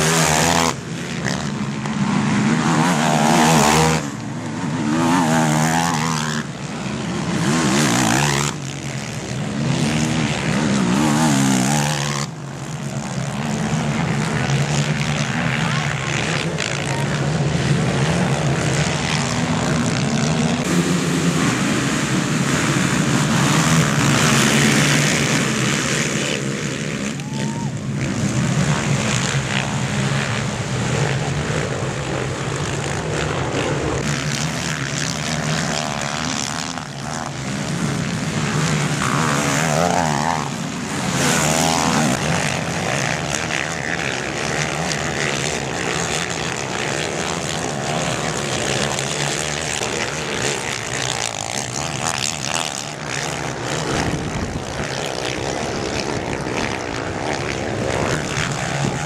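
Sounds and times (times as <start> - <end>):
engine revving: 0.0 - 59.0
quad bike engines droning: 0.0 - 59.0.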